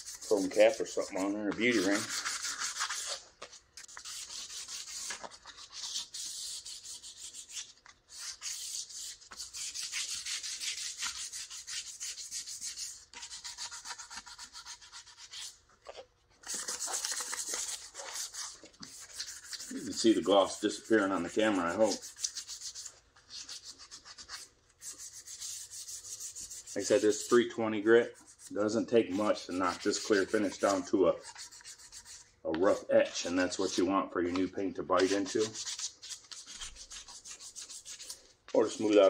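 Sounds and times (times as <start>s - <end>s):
sandpaper rubbing: 0.0s - 3.2s, 3.8s - 15.6s, 16.4s - 27.5s, 28.1s - 32.9s, 35.0s - 39.0s.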